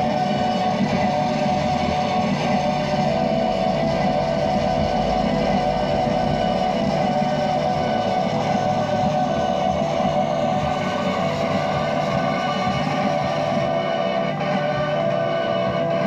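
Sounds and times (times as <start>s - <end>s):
experimental noise music drone: 0.0s - 16.0s.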